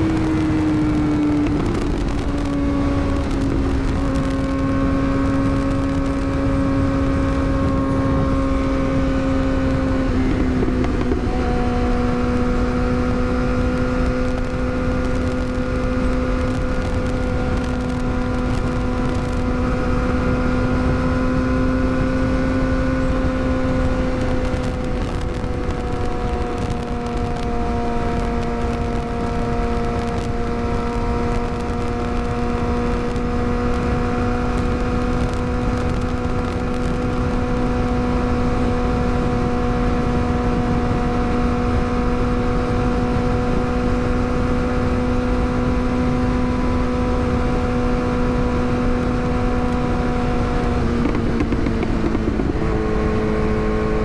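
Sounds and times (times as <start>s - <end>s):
motorcycle engine cruising: 0.0s - 54.0s
wind rush: 0.0s - 54.0s.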